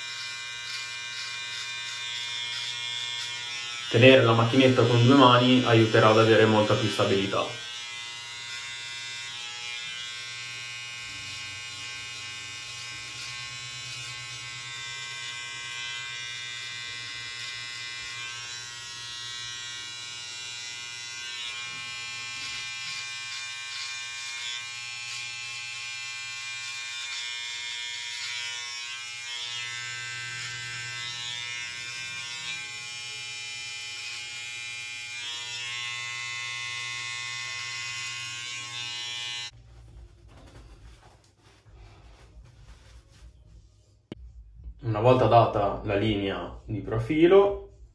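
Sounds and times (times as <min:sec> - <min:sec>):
electric hair clipper buzzing: 0:00.0 - 0:39.6.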